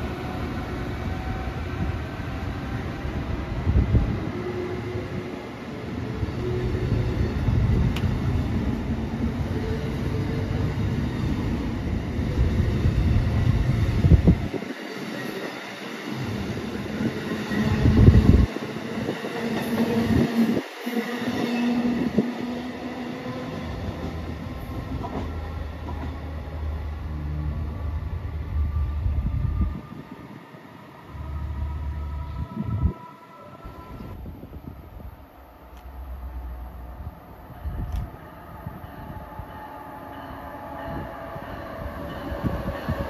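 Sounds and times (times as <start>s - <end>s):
train coaches passing at speed: 0.0s - 43.0s.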